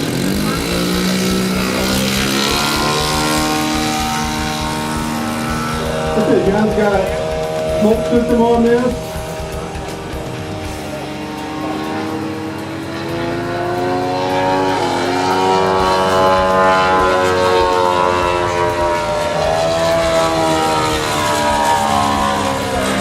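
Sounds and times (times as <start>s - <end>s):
model airplane engine: 0.0s - 23.0s.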